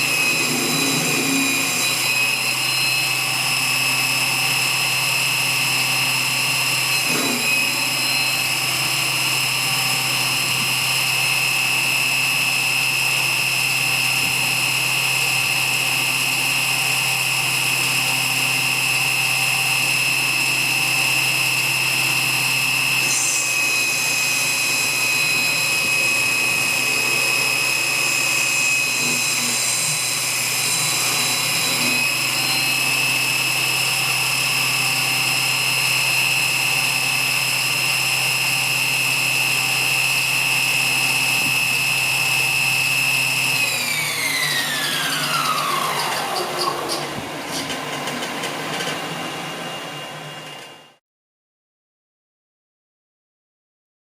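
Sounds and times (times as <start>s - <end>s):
lathe motor whining: 0.0s - 50.8s.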